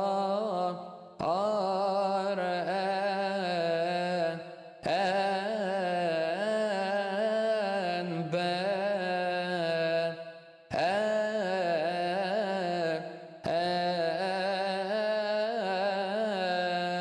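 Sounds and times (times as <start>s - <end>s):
man chanting a hymn: 0.0s - 17.0s.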